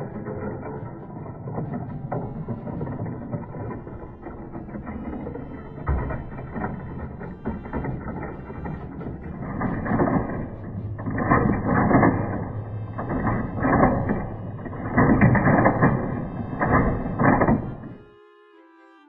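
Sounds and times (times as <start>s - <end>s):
plastic balls rolling down ramps: 0.0s - 18.0s
plastic mechanism rattling: 0.0s - 18.0s.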